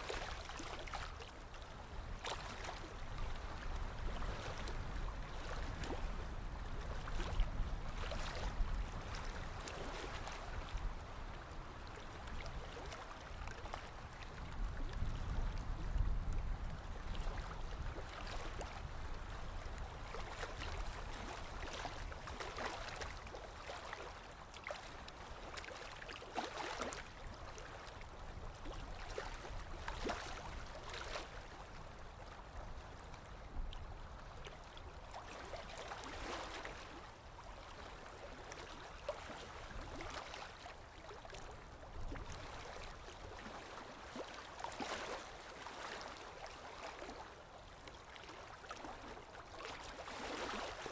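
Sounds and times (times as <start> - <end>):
small splashes and drips: 0.0 - 6.0, 8.0 - 18.9, 19.6 - 50.9.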